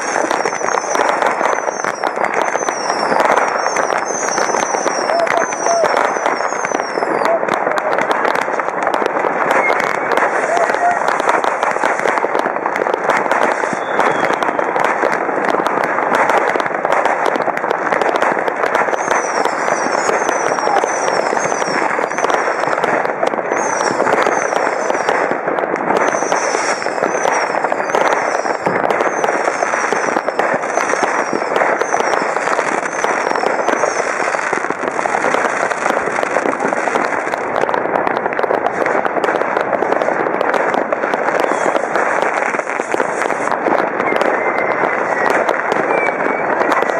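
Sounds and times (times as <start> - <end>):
falling firework whistles: 0.0 - 8.5, 9.3 - 12.4, 13.0 - 15.1, 18.0 - 37.7, 38.3 - 46.9
fireworks crackling bangs and pops: 0.0 - 46.9.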